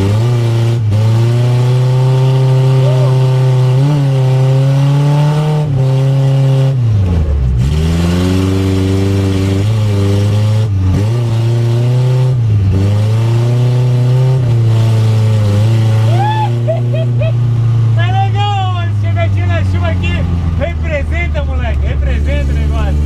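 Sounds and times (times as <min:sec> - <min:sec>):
car engine at high revs: 0:00.0 - 0:23.0.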